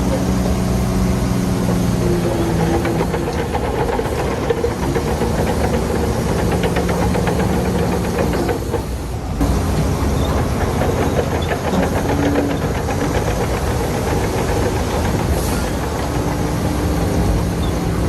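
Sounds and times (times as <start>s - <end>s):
bulldozer diesel engine running: 0.0s - 18.0s
steel tracks clattering: 0.0s - 18.0s.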